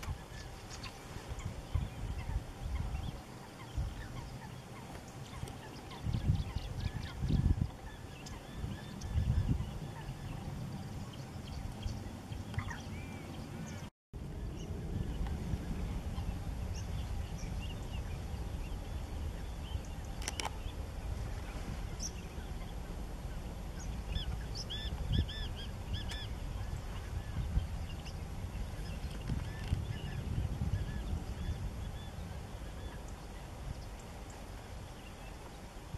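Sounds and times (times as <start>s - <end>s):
birds chirping: 0.0s - 35.9s
steady low rumble: 0.0s - 35.9s.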